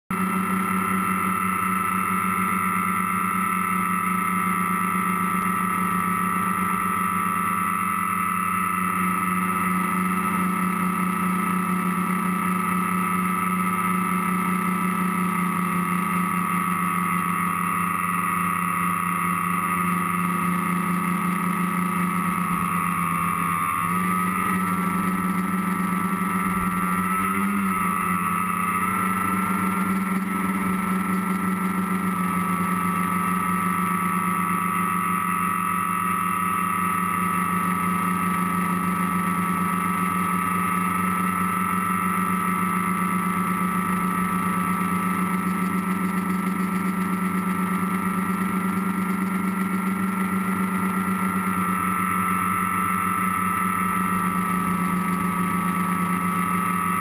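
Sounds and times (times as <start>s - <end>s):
drone motors whining: 0.1s - 57.0s.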